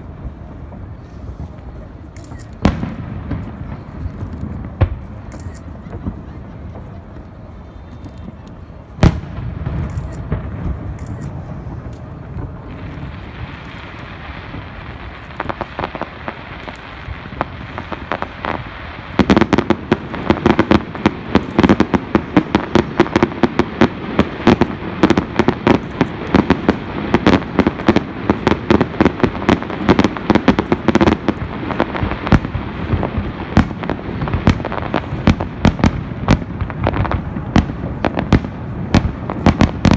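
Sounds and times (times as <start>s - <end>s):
fireworks bangs and pops: 0.0s - 39.9s
fireworks crackling: 0.0s - 39.9s.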